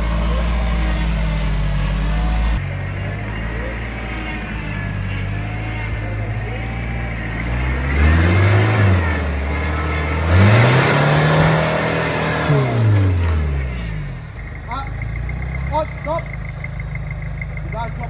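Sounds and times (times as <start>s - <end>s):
diesel engine revving hard: 0.0s - 18.0s.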